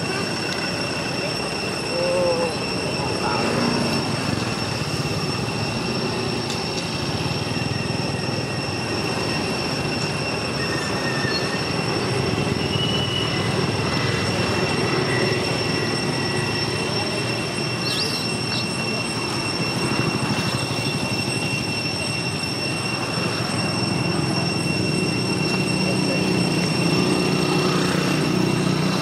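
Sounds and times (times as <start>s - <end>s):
cicada chorus drone: 0.0s - 29.0s.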